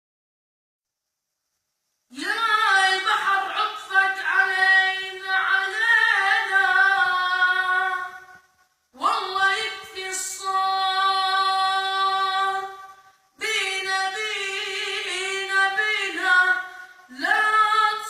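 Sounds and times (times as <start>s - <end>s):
high voice chanting: 2.1s - 18.0s.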